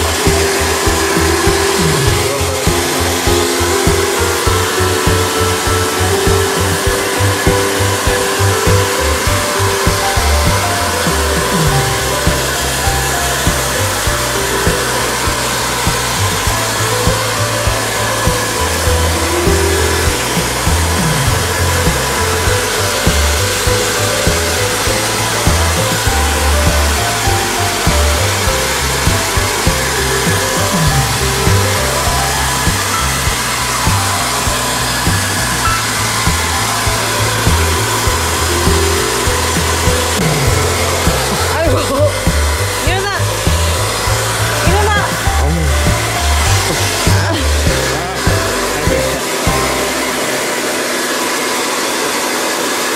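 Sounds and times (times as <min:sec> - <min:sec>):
background music with bass: 0:00.0 - 0:50.6
hair dryer running: 0:00.0 - 0:52.9.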